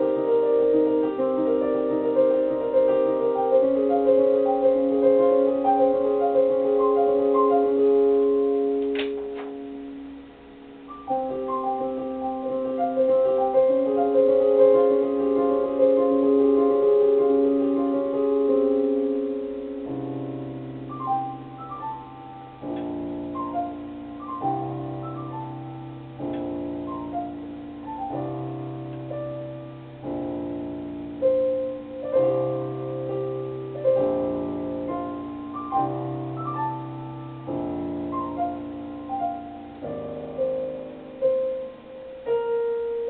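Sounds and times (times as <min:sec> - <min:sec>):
solo piano piece: 0:00.0 - 0:43.0.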